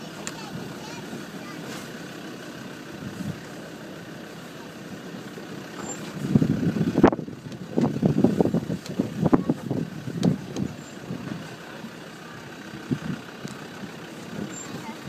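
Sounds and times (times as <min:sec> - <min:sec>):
off-road vehicle crawling: 0:00.0 - 0:15.0
vehicle rumbles and jolts: 0:00.0 - 0:15.0.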